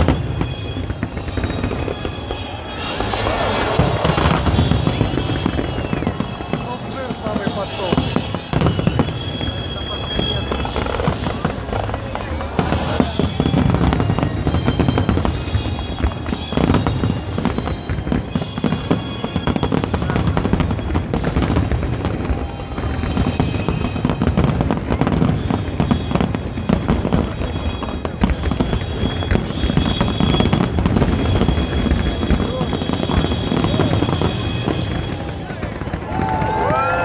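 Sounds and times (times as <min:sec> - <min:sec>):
fireworks booming and crackling: 0:00.0 - 0:37.0.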